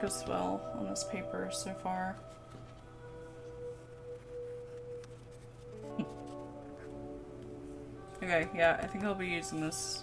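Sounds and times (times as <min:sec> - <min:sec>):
soft sustained background music: 0:00.0 - 0:10.0.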